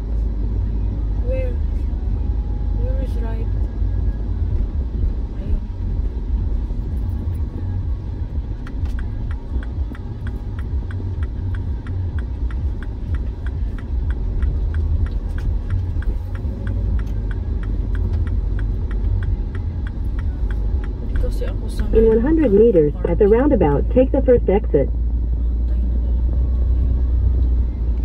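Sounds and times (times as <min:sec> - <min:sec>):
car cabin road rumble: 0:00.0 - 0:28.0
turn signal ticking: 0:00.5 - 0:28.0.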